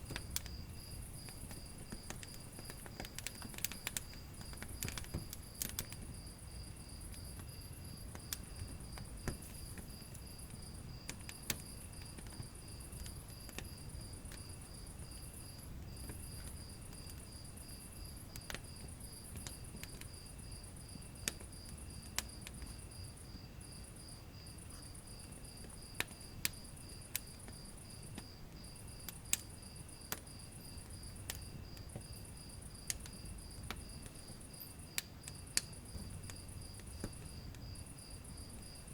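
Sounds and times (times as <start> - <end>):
cricket chirping: 0.0 - 38.9
wood fire crackling and popping: 0.0 - 38.9.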